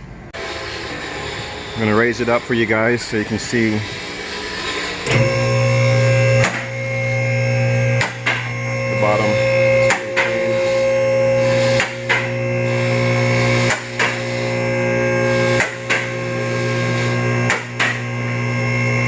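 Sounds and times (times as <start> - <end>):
car lift pump motor humming: 2.0 - 19.0.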